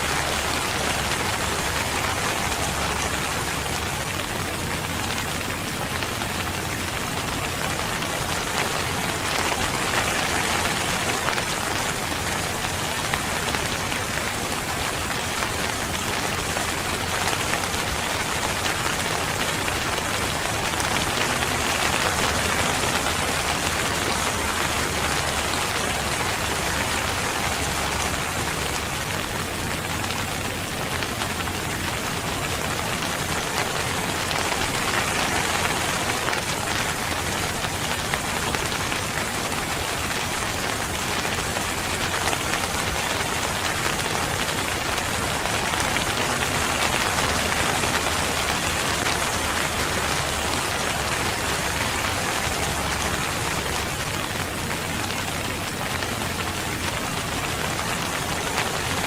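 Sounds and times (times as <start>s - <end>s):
steady rain on a surface: 0.0s - 59.0s.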